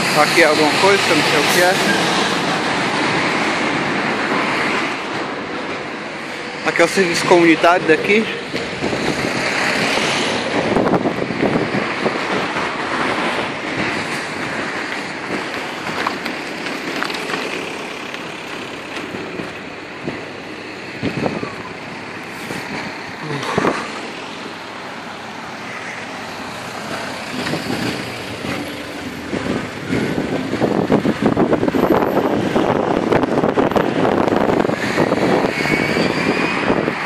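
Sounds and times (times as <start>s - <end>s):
road traffic on wet street: 0.0s - 37.0s.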